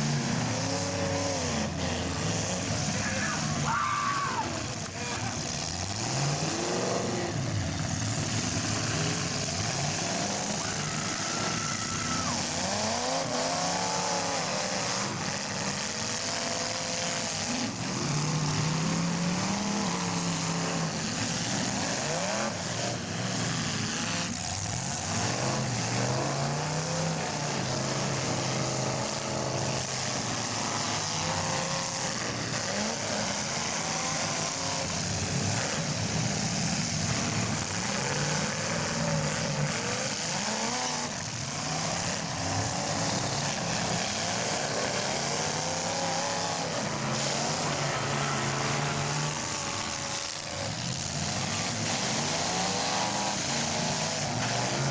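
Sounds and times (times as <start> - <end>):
car engines revving: 0.0 - 54.9
constant rush of noise: 0.0 - 54.9.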